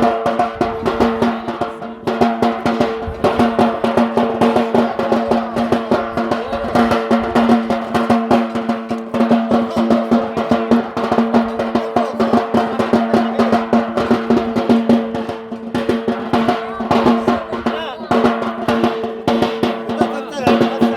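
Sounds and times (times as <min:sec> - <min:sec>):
rapid dense drumming: 0:00.0 - 0:20.9.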